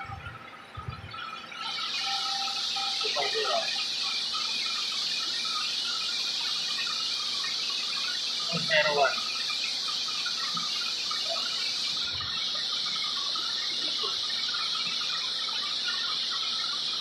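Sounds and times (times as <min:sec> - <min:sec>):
faint chirps: 0:00.0 - 0:17.0
high-pitched insect chorus: 0:00.0 - 0:17.0.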